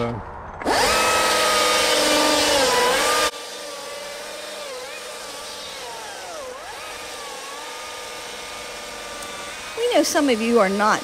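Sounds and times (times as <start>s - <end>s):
battery chainsaw cutting wood: 0.6s - 11.0s.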